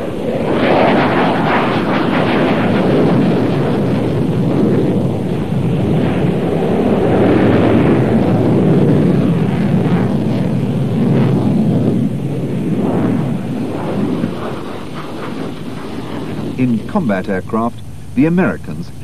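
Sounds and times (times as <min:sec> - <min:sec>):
fighter jet roar: 0:00.0 - 0:19.0.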